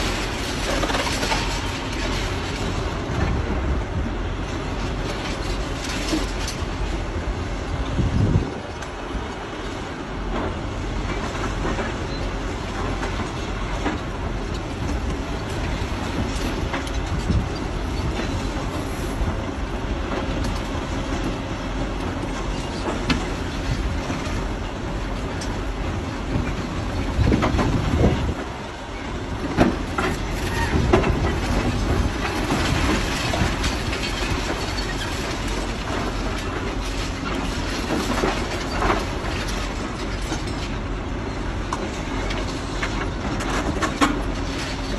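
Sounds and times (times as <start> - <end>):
excavator engine rumbling: 0.0 - 44.9.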